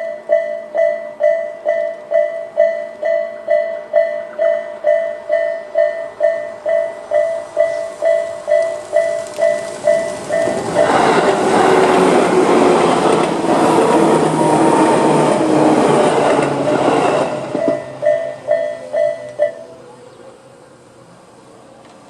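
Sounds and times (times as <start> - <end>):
crossing warning bell dinging: 0.0 - 20.0
electric train passing: 0.0 - 22.0.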